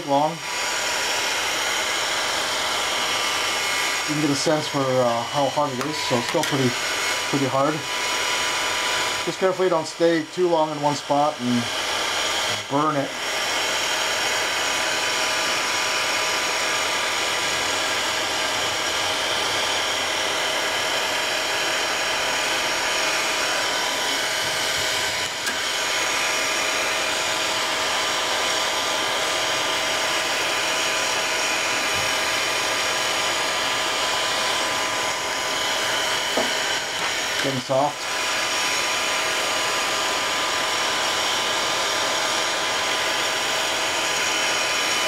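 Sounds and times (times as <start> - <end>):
heat gun blower hiss: 0.0 - 45.0.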